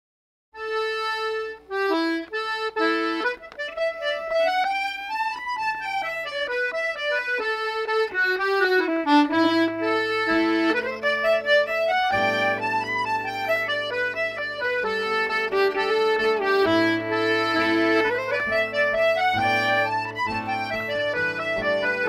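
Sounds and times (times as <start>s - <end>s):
accordion playing folk melody: 0.6s - 22.0s.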